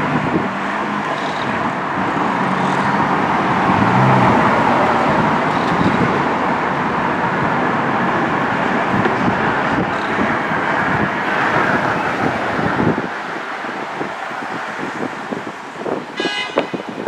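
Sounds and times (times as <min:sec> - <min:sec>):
passing vehicle rumble: 0:00.0 - 0:17.0.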